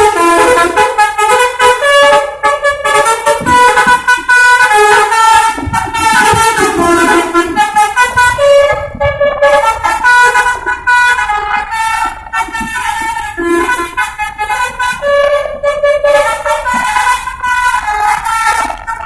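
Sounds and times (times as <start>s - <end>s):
multi-tone bus horn melody: 0.0s - 19.0s.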